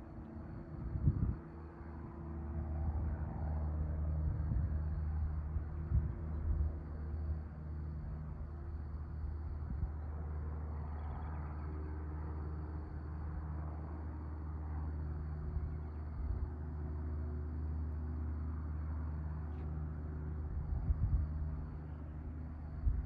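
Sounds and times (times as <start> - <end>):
distant propeller plane hum: 0.0 - 23.0.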